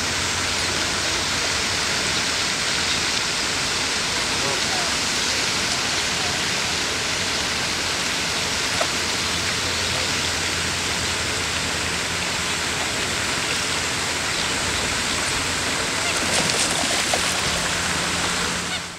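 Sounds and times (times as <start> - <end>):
fountain water splashing: 0.0 - 18.9.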